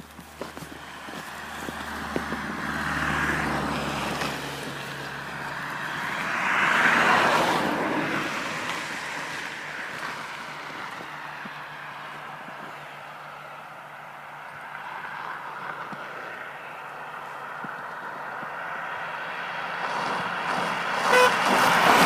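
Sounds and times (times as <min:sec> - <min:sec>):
car passing with tyre hiss: 0:00.0 - 0:22.0.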